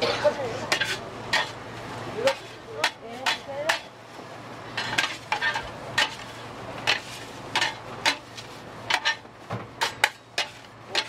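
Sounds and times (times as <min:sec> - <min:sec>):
metal spatulas scraping griddle: 0:00.0 - 0:01.6, 0:02.2 - 0:03.9, 0:04.7 - 0:11.0.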